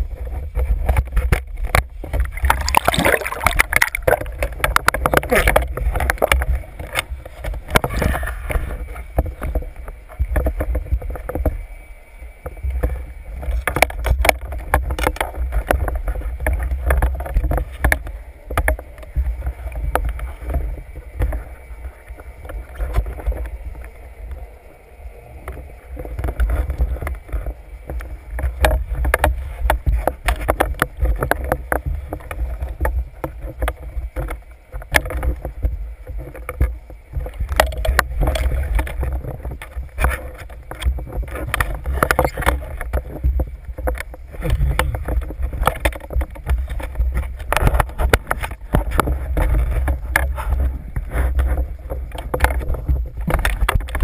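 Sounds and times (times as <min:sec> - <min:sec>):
clicks and knocks underwater: 0:00.0 - 0:11.8, 0:12.4 - 0:24.5, 0:25.3 - 0:54.0
underwater water rumble: 0:00.0 - 0:54.0.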